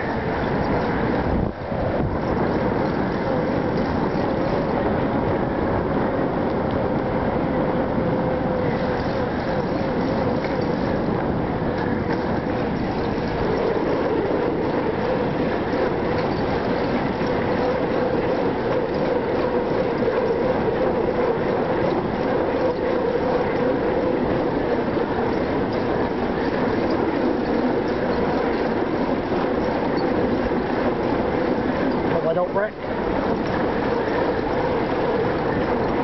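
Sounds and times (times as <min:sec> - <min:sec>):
bicycle tyres rumbling on bridge: 0:00.0 - 0:36.0.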